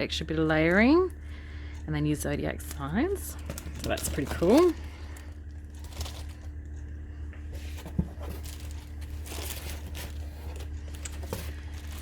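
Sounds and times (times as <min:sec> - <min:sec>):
plastic wrap crinkling: 0:00.0 - 0:12.0
steady low hum: 0:00.0 - 0:12.0.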